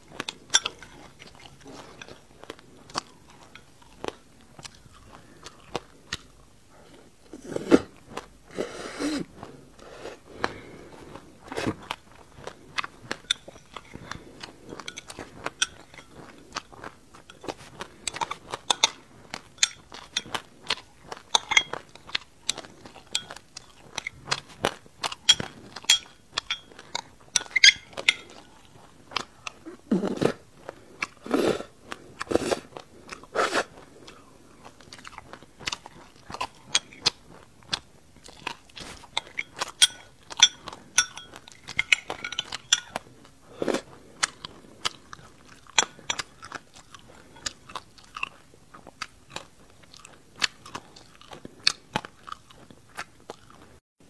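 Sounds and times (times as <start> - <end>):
mouth chewing crunchy seeds: 0.0 - 53.8.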